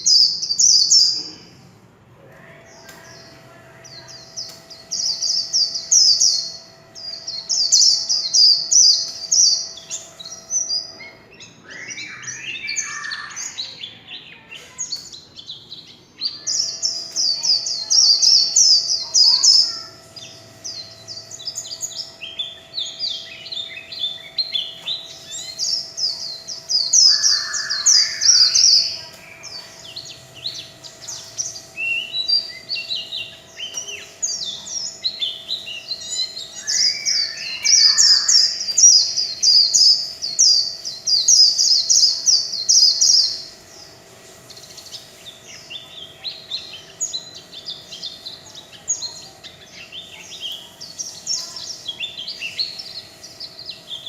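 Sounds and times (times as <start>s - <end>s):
bird twittering song: 0.0s - 1.5s, 2.3s - 54.0s.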